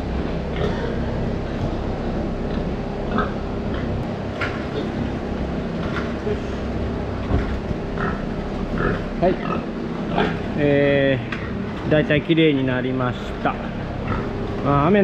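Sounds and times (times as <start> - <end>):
pigs: 0.0 - 10.6, 13.2 - 14.7
low mechanical machinery hum: 0.0 - 15.0.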